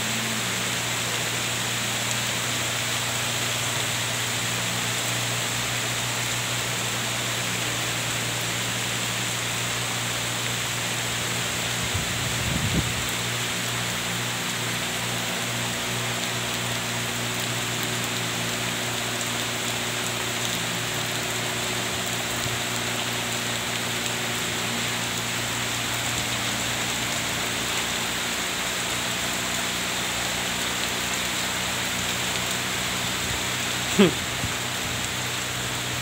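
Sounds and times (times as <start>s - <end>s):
rain falling on trees and grass: 0.0s - 36.0s.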